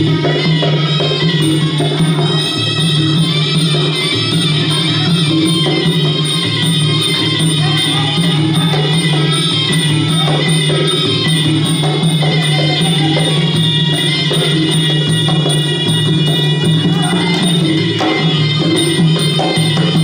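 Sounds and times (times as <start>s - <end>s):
drums beating: 0.0s - 20.0s
small cymbals: 0.0s - 20.0s
wailing reed-pipe melody: 0.0s - 20.0s.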